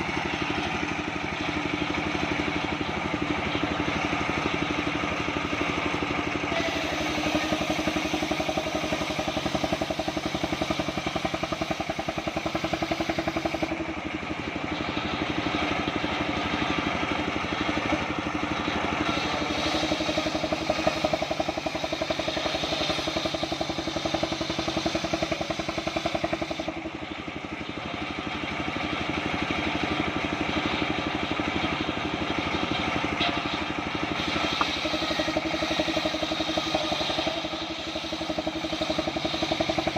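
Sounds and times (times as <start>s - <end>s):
engine-driven circular sawmill: 0.0s - 39.9s.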